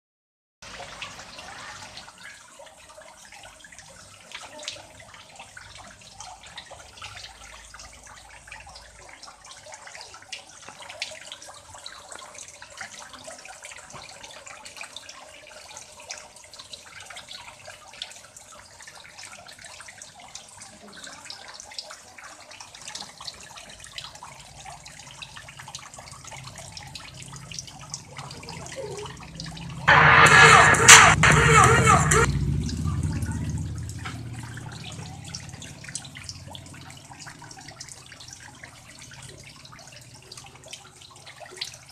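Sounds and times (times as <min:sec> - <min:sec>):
water splashing into pond: 0:00.6 - 0:30.3, 0:32.2 - 0:41.9.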